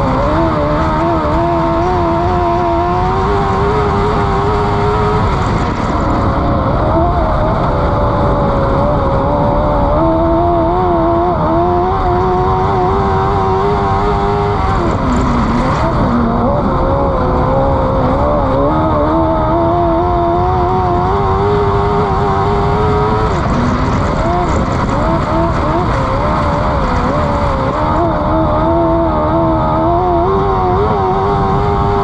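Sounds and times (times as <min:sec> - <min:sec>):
race car engine revving: 0:00.0 - 0:32.0
wind and tyre noise: 0:00.0 - 0:32.0.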